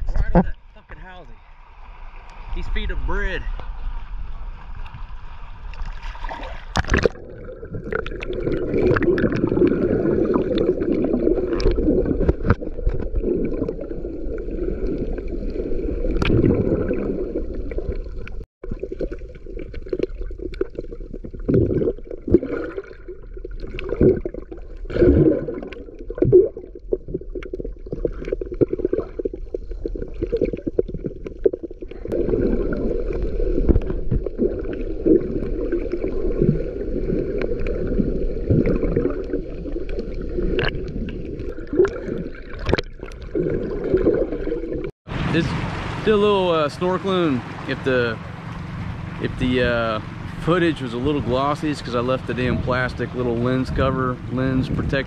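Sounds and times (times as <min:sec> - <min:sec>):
muffled water sloshing and gurgling: 0:00.0 - 0:55.0
knocks and splashes: 0:03.6 - 0:54.9.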